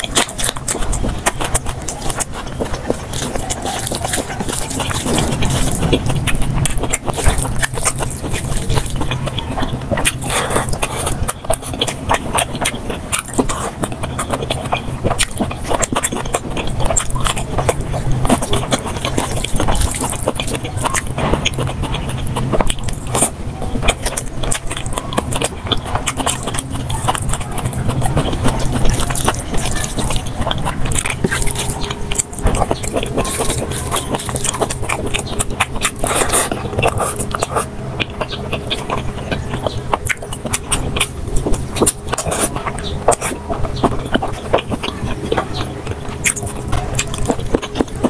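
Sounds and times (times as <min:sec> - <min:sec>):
rapid chewing and mouth smacking: 0:00.0 - 0:48.0.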